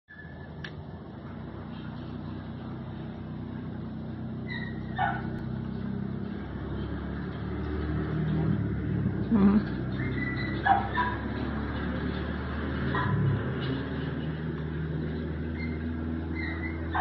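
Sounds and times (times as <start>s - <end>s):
vehicle engine hum: 0.1s - 17.0s.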